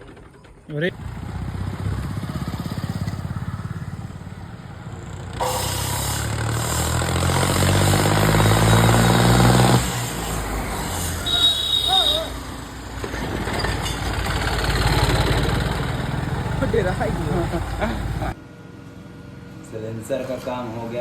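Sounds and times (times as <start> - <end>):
tractor diesel engine revving: 0.9 - 18.4.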